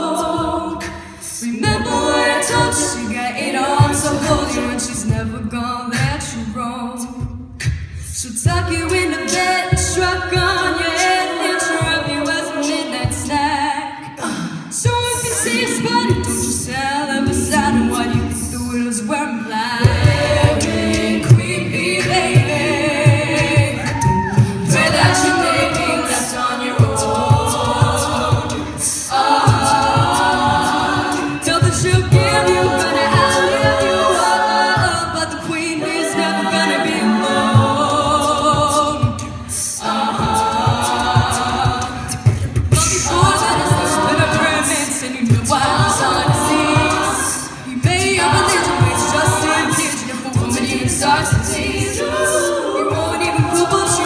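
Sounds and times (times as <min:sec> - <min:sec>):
vocal percussion beat: 0:00.0 - 0:54.0
women singing a cappella harmonies: 0:00.0 - 0:54.0.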